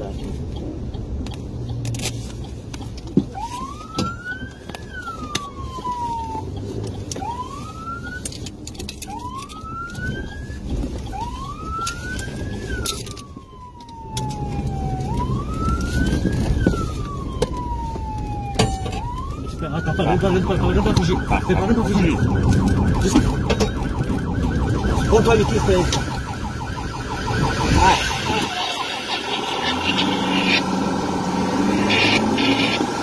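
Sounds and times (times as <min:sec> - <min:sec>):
engine and road noise: 0:00.0 - 0:33.0
police siren: 0:03.0 - 0:33.0.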